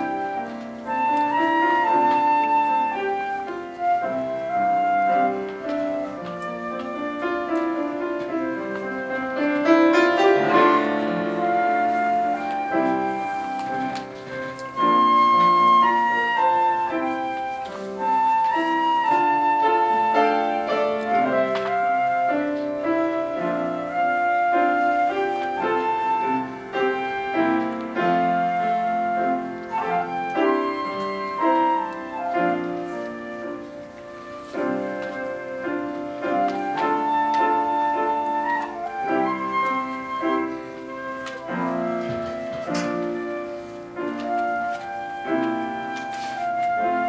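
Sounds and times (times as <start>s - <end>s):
grand piano chords: 0.0s - 47.0s
solo melody instrument held notes: 0.0s - 47.0s.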